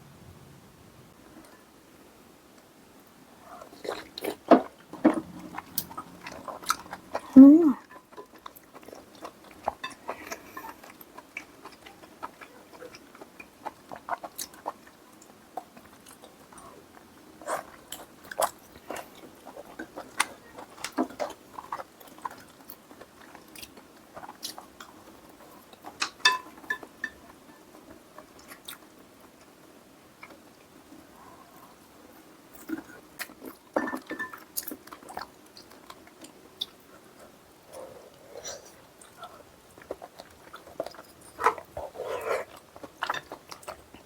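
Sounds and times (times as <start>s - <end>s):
wet chewing and smacking: 3.6s - 31.9s, 32.5s - 44.0s.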